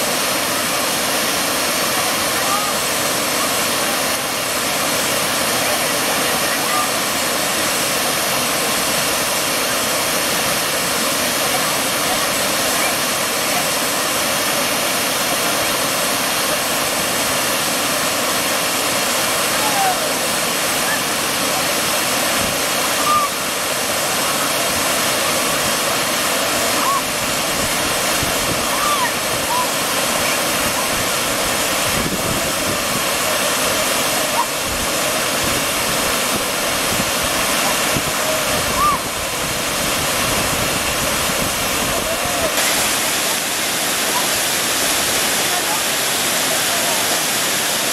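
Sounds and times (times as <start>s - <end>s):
water rushing over cascade: 0.0s - 47.9s.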